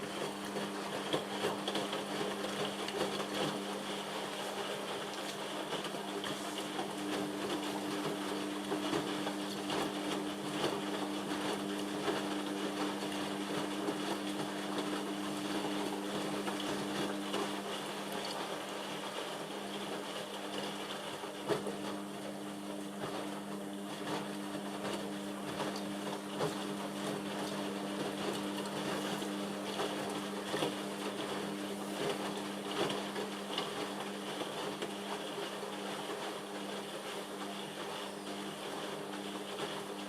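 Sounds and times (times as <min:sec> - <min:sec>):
washing machine humming: 0:00.0 - 0:40.0
water sloshing in drum: 0:00.0 - 0:40.0.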